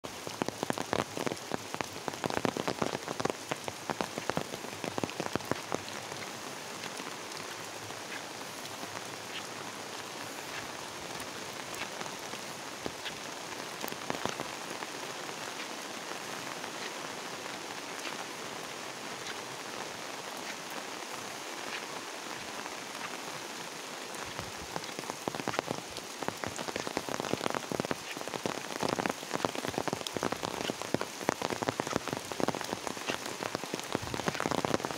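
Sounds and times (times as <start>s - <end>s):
close raindrop hits: 0.0s - 34.9s
rain on leaves and pavement: 0.0s - 34.9s.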